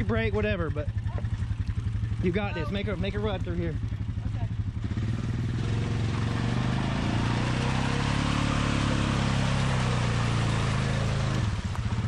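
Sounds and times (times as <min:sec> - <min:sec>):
atv engine at high revs: 0:00.0 - 0:12.0.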